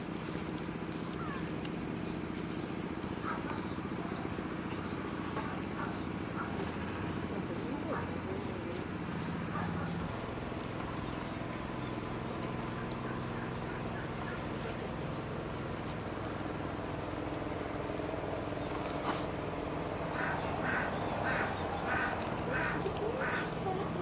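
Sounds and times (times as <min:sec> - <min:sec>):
low mechanical hum: 0:00.0 - 0:24.0
faint poultry calls: 0:01.0 - 0:24.0.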